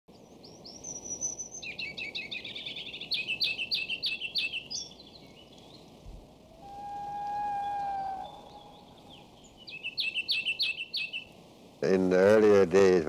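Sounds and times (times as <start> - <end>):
faint steady hiss: 0.1 - 13.0
songbird singing: 0.1 - 13.0.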